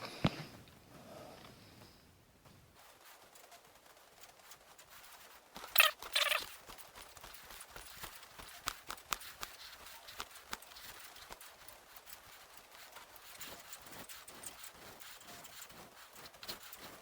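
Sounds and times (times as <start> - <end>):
sharp clatter: 2.8 - 17.0.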